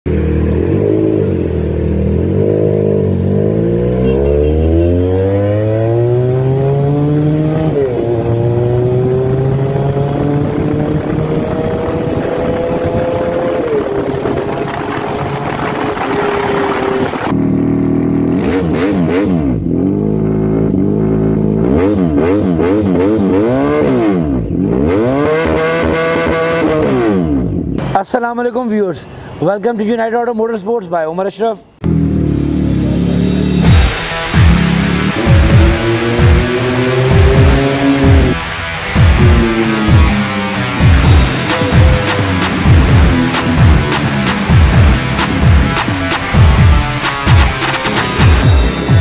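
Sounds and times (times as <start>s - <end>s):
motorcycle engine accelerating: 0.1s - 27.8s, 31.8s - 49.0s
motorcycle engine revving: 0.1s - 27.9s, 31.8s - 49.0s.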